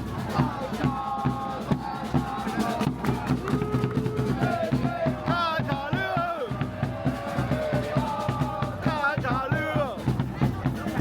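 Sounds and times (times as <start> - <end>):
music with drum beat and melody: 0.0 - 11.0.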